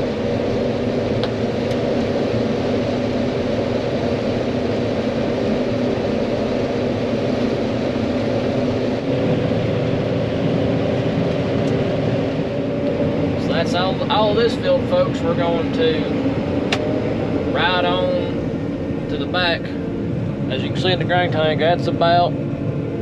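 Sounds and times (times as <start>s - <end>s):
combine harvester droning: 0.0s - 23.0s.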